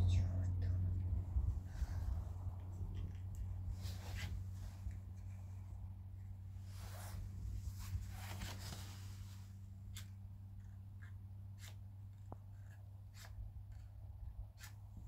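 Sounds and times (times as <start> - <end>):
faint low hum: 0.0 - 15.0
soft rustling: 1.3 - 13.8.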